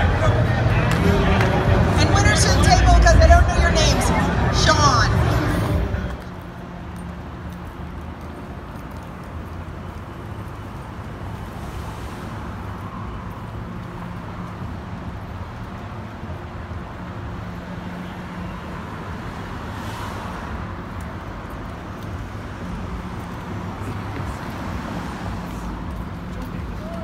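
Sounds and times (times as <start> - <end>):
car engines rumbling: 0.0 - 27.0.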